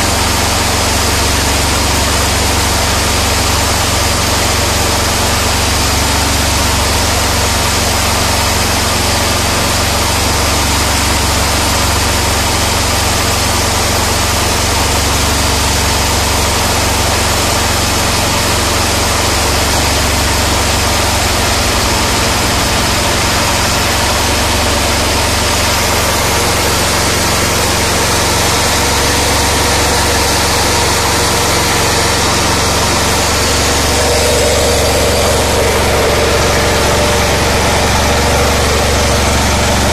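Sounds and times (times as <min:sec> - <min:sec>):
machine whirring: 0:00.0 - 0:39.9
small engine running: 0:00.0 - 0:39.9.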